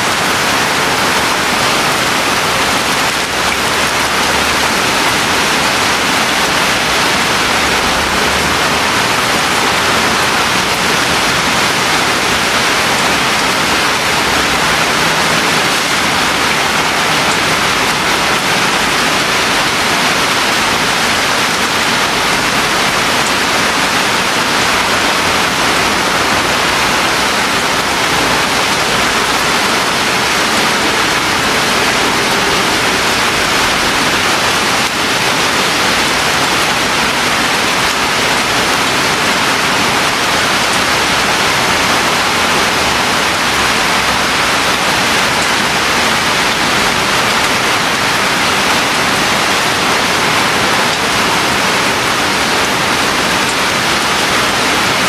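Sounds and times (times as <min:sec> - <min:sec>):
steady rain hiss: 0:00.1 - 0:55.0.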